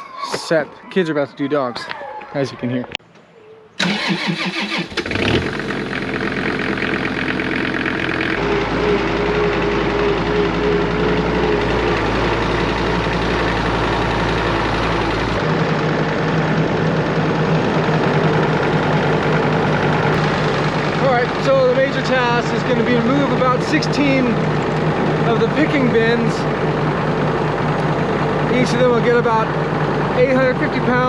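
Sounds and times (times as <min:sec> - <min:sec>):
tractor engine running: 0:03.8 - 0:31.0.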